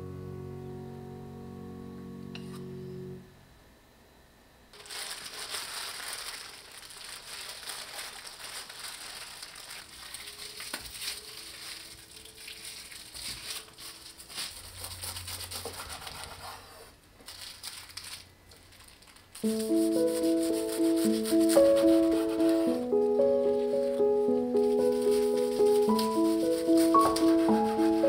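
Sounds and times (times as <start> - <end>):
wrapping paper crinkling: 4.8 - 16.6, 17.2 - 28.0.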